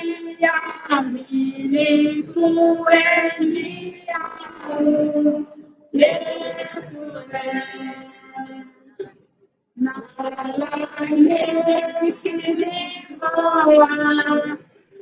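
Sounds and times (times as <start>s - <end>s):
group of women singing: 0.0s - 9.1s, 9.8s - 15.0s.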